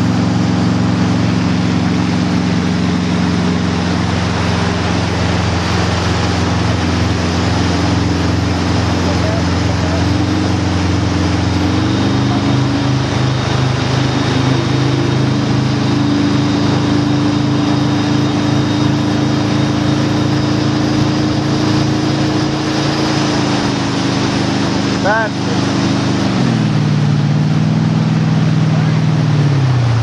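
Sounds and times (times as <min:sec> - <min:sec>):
boat engine running: 0:00.0 - 0:30.0
rush of boat wake: 0:00.0 - 0:30.0.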